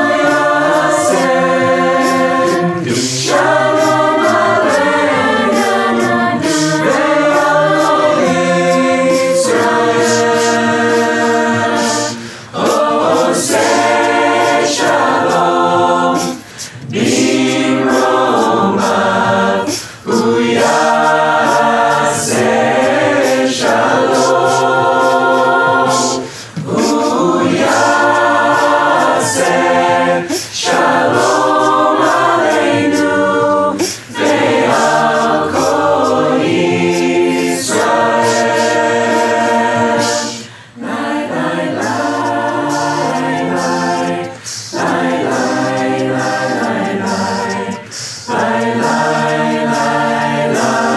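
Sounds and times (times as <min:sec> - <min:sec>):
choir singing a cappella: 0:00.0 - 0:50.9.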